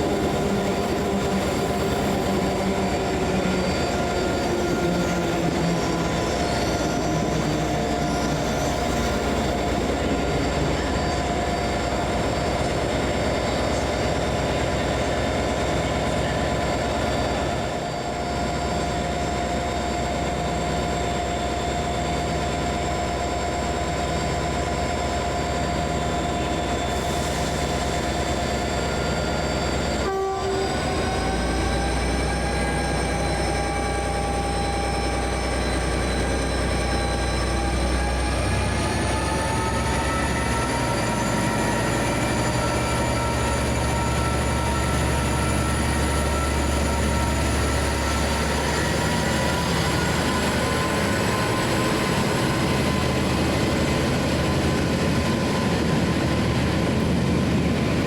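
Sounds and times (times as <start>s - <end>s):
train running with machine hum: 0.0s - 58.0s
whining tones: 0.0s - 58.0s.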